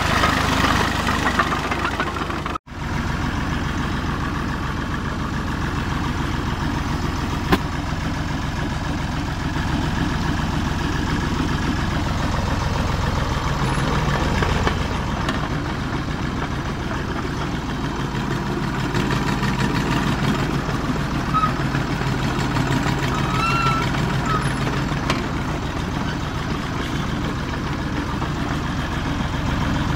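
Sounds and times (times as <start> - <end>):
diesel tractor engine running: 0.0 - 29.9.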